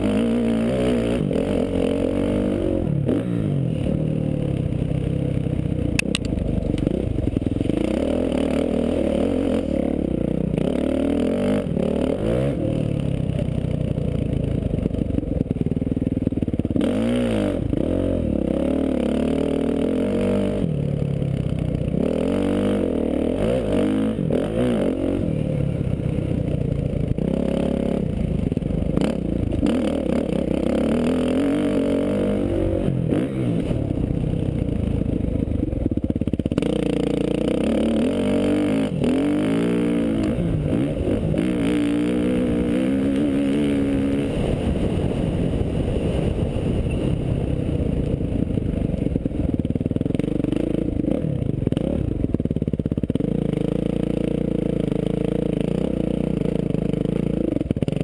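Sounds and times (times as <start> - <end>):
dirt bike engine revving: 0.0 - 4.6, 6.8 - 13.2, 16.4 - 20.7, 21.9 - 26.2, 26.8 - 58.0.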